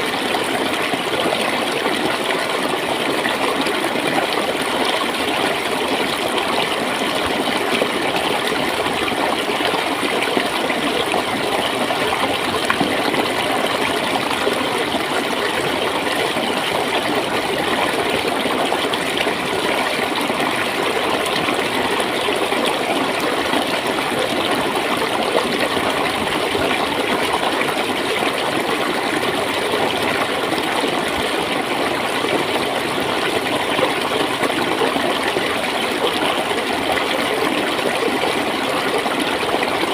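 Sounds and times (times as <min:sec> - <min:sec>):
water gurgling and splashing: 0:00.0 - 0:39.9.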